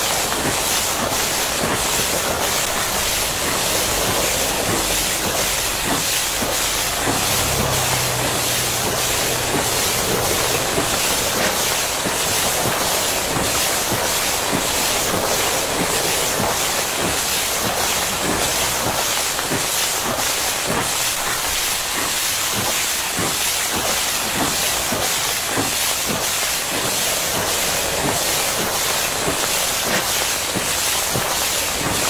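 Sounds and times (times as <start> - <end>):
pressure washer jet hissing: 0.0 - 32.0.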